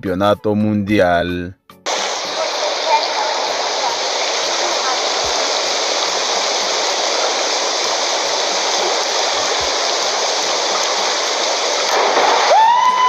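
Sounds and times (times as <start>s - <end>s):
indoor pool hall hiss: 1.9s - 13.0s.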